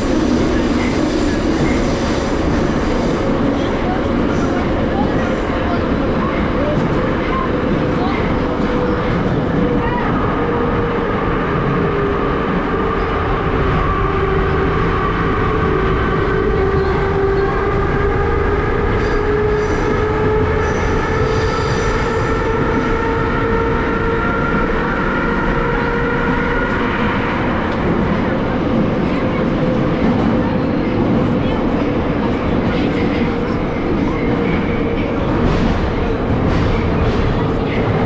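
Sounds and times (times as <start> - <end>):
wheels rumbling on rails: 0.0 - 38.0.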